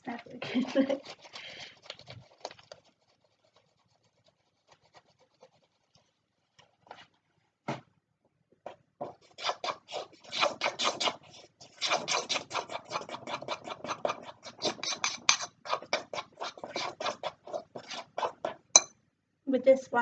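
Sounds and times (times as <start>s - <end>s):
utensil scraping icing in bowl: 0.1s - 6.2s, 9.0s - 18.9s.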